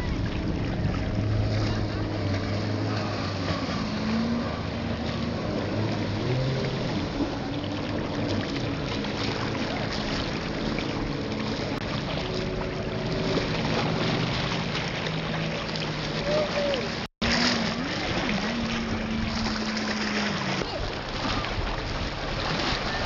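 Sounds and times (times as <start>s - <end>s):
jet ski engine running: 0.0s - 23.0s.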